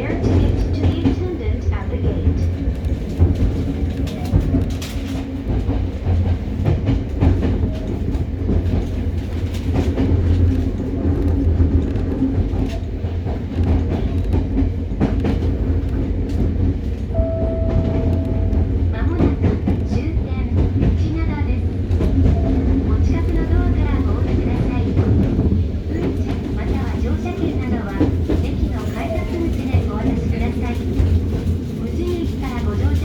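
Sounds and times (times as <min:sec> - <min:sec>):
rail-joint clicks: 0:00.0 - 0:33.0
train wheels rumbling on rail: 0:00.0 - 0:33.0.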